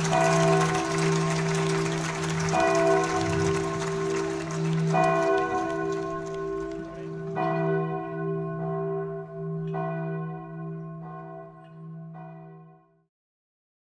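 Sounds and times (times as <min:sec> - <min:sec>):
church bell tolling: 0:00.0 - 0:12.9.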